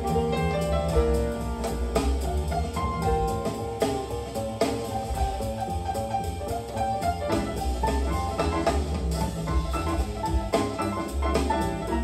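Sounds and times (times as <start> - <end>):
jazz music through loudspeakers: 0.0 - 12.0.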